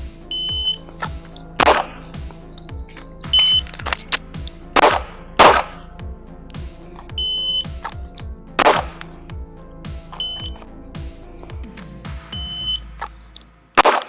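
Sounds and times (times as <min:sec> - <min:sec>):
background music with beat: 0:00.0 - 0:14.0.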